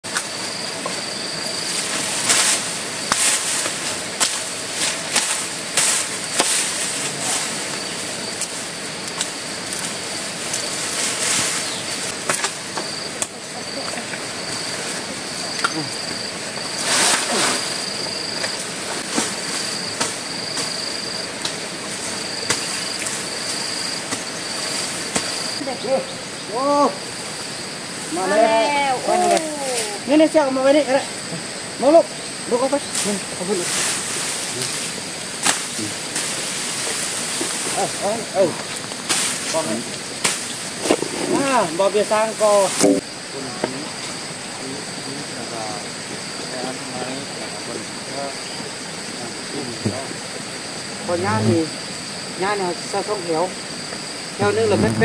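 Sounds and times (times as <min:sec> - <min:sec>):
insect high-pitched trill: 0:00.0 - 0:55.0.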